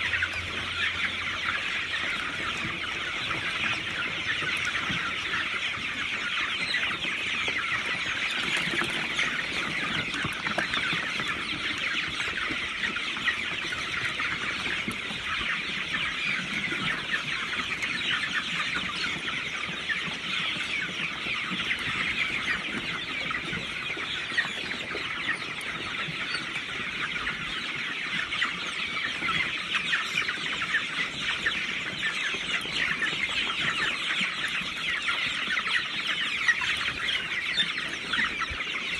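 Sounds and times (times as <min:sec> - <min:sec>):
chickens clucking and chirping: 0:00.0 - 0:38.9.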